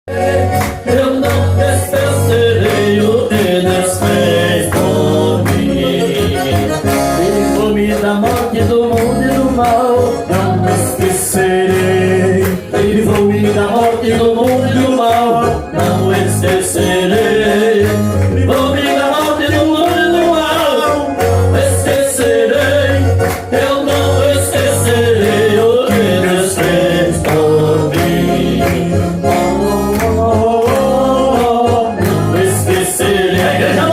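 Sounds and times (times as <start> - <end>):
electronic keyboard chords: 0.1 - 33.9
man singing: 0.1 - 33.9
steady bass line: 0.1 - 33.9.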